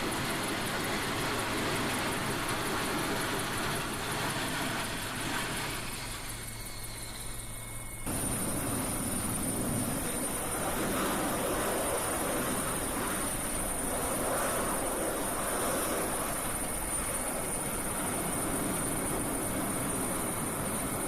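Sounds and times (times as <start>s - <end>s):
jet engine rushing: 0.0s - 21.0s.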